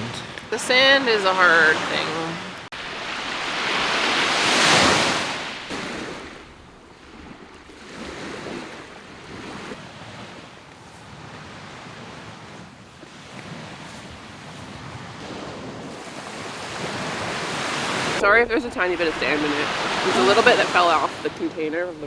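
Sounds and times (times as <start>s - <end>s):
surf washing onto shore: 0.0s - 22.0s
wind: 0.0s - 22.0s.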